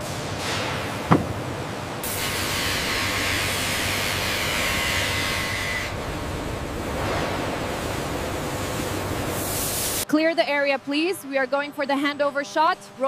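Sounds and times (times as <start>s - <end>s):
low factory hum: 0.0s - 13.0s.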